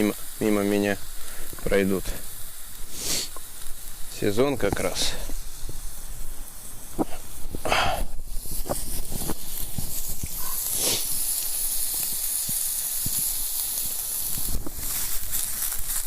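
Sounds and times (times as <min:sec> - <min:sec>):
campfire crackles: 0:00.0 - 0:16.0
food sizzling in a frying pan: 0:00.0 - 0:16.0.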